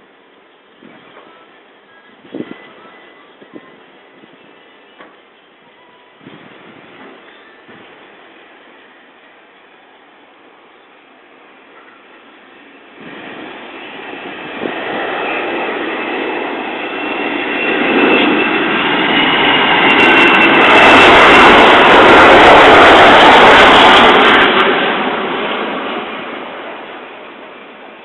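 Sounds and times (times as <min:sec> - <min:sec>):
jet airliner roar and whine: 0:00.0 - 0:28.0.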